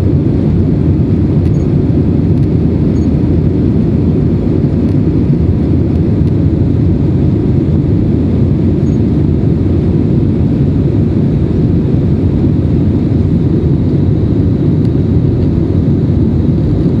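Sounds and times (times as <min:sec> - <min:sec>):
jet engine drone: 0:00.0 - 0:17.0
rushing airflow: 0:00.0 - 0:17.0.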